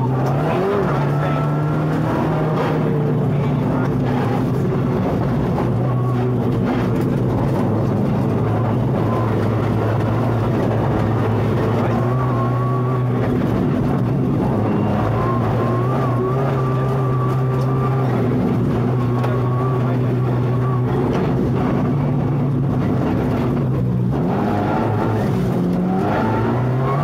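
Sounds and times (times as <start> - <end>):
rally car engine: 0.0 - 27.0.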